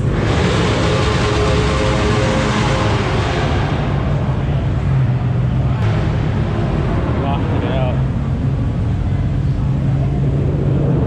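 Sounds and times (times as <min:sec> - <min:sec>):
car engine running: 0:00.0 - 0:11.0
rushing noise: 0:00.0 - 0:11.0.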